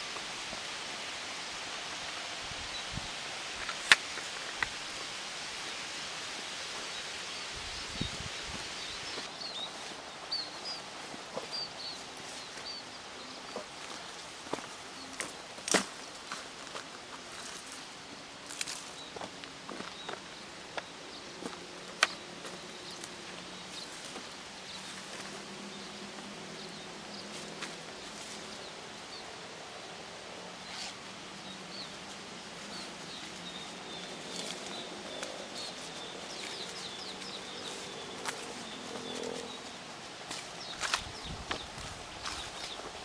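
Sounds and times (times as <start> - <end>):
small birds chirping: 0.0 - 43.0
steady background hiss: 0.0 - 43.0.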